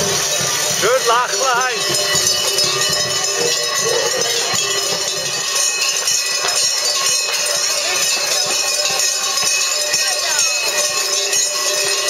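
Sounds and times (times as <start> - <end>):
cowbells jangling: 0.0 - 12.0.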